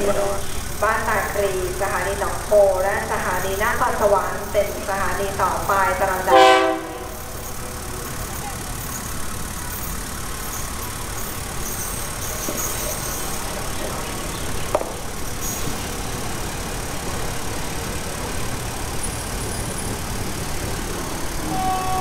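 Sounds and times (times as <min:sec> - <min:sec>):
diesel railcar engine: 0:00.0 - 0:22.0.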